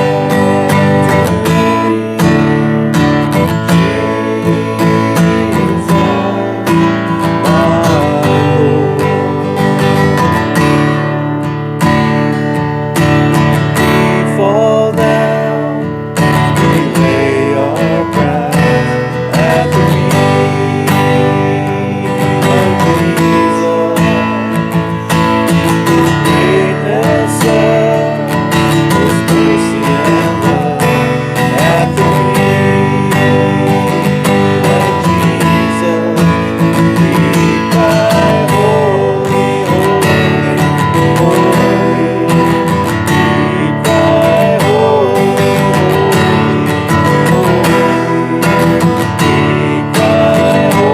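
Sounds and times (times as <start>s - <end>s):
acoustic guitar strumming: 0.0s - 50.9s.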